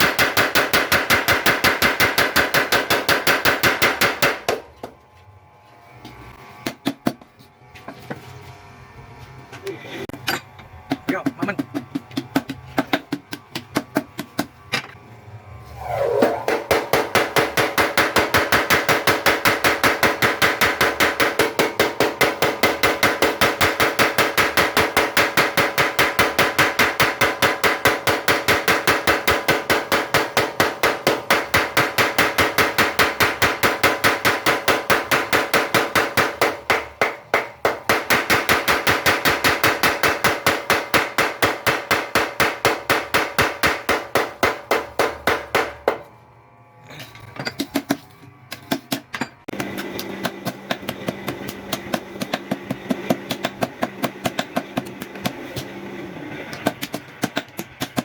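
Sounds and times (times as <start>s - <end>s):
power hammer hammering: 0.0s - 5.0s, 6.3s - 7.4s, 10.1s - 15.0s, 16.3s - 46.2s, 47.3s - 58.0s.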